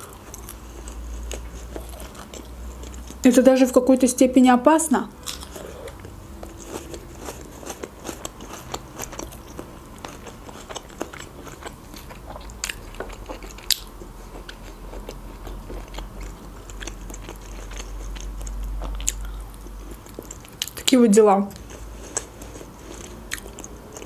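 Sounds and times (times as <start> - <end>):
chewing and crunching food: 0.0 - 3.3, 5.2 - 24.0.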